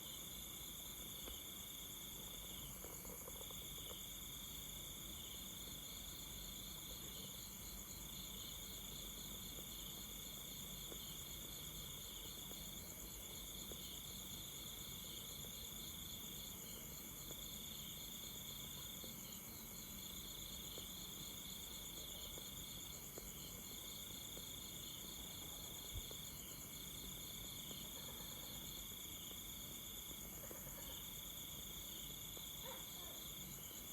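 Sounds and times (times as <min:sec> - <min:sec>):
lower insect trill: 0:00.0 - 0:33.9.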